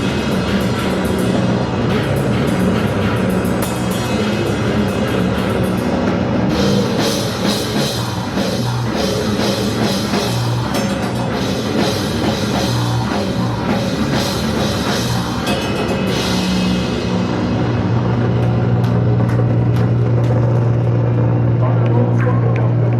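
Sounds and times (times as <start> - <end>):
crashing cymbals: 0.0 - 18.8
live rock band playing: 0.0 - 20.8.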